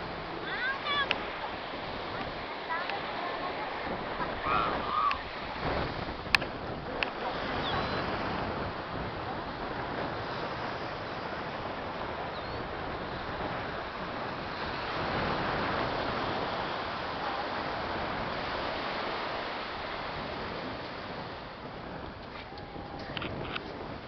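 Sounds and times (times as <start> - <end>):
ocean surf washing on beach: 0.0 - 24.0
wind on microphone: 0.0 - 24.0.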